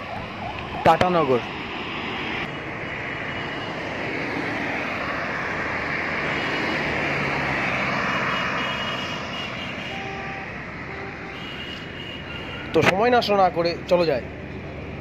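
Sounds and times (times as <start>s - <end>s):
highway traffic passing: 0.0s - 15.0s.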